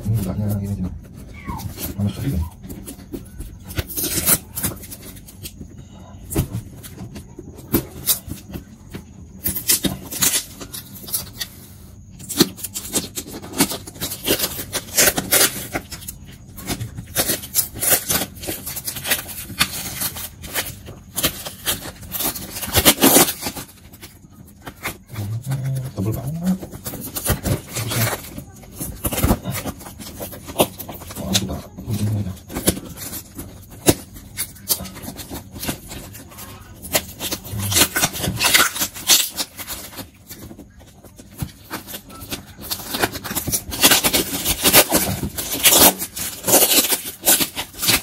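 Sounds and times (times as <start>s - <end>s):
plastic and tape crinkling: 0.0s - 48.0s.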